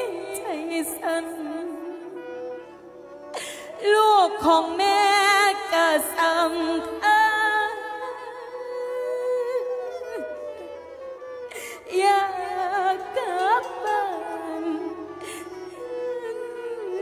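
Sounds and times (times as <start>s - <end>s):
woman singing with vibrato: 0.0s - 2.2s, 3.4s - 10.3s, 11.7s - 17.0s.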